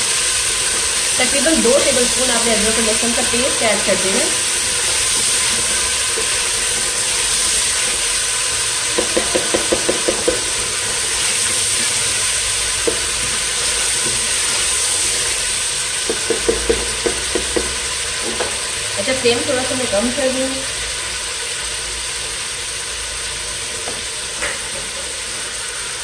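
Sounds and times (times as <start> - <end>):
potatoes frying in hot oil: 0.0 - 26.0.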